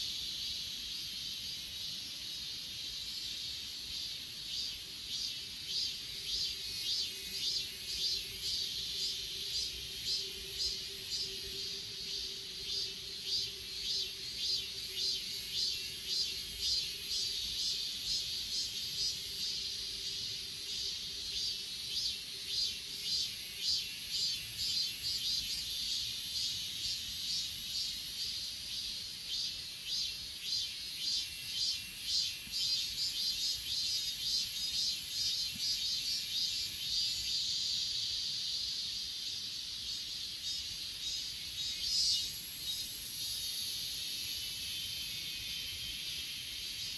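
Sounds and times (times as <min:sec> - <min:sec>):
crickets chirring: 0:00.0 - 0:46.9
high-pitched insect drone: 0:00.1 - 0:46.9.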